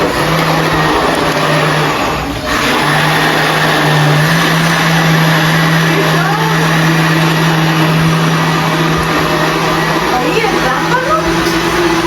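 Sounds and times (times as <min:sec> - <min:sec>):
electric blender running: 0:00.0 - 0:12.0.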